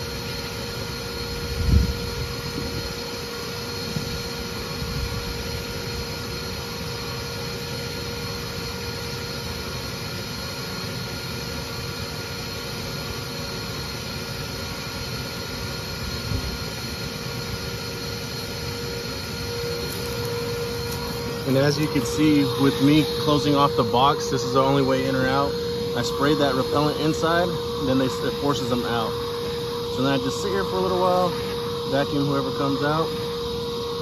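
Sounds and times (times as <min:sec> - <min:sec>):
vacuum running with whine: 0:00.0 - 0:34.0.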